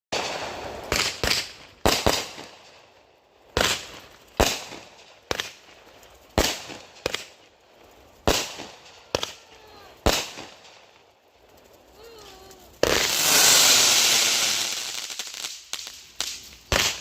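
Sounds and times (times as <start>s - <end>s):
firecrackers banging: 0.2s - 17.0s.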